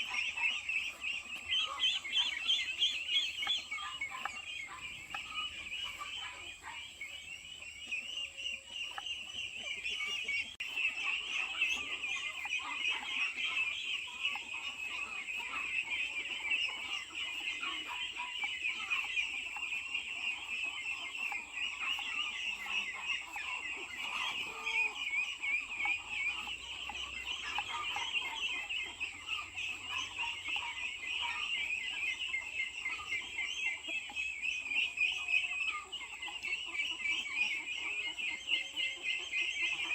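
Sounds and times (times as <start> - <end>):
chickens calling: 0.0 - 39.9.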